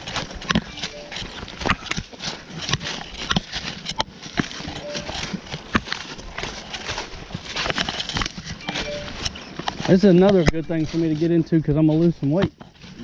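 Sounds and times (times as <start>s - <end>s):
footsteps crunching through dry leaves: 0.0s - 13.0s.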